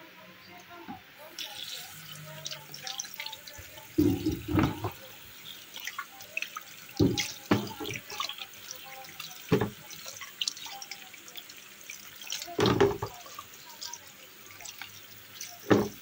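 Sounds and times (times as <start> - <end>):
kitchen tap running: 0.8 - 16.0.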